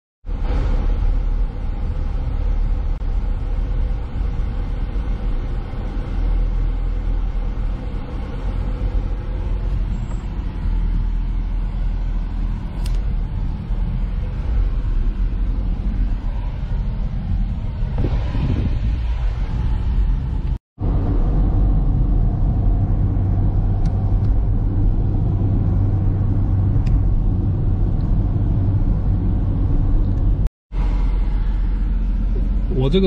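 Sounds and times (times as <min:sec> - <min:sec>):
car engine and road rumble: 0:00.2 - 0:33.0.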